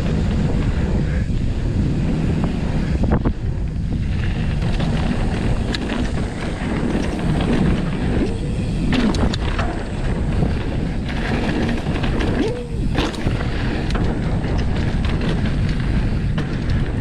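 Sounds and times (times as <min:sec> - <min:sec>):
bike clicks and knocks over bumps: 0:00.0 - 0:17.0
wind buffeting microphone: 0:00.0 - 0:17.0.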